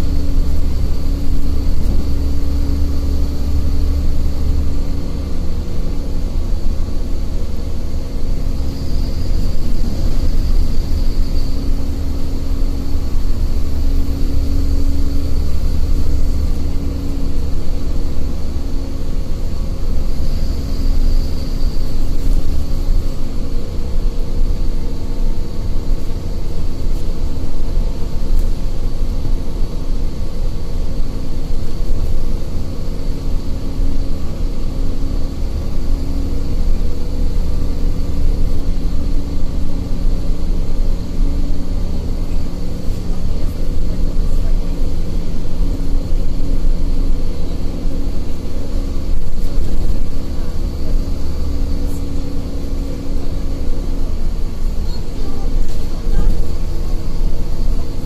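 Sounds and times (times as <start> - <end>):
bus engine and road rumble: 0.0 - 58.0
steady hum: 0.0 - 58.0.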